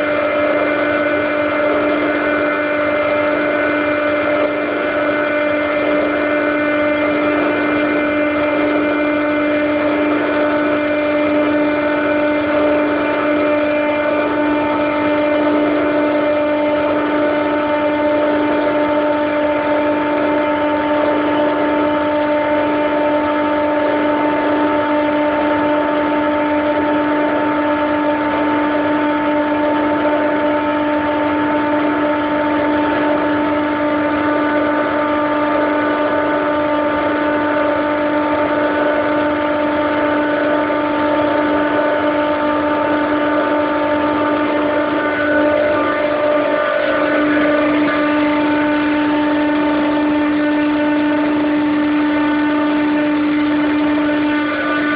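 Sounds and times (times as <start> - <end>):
chiller compressor whining hum: 0.0 - 54.9.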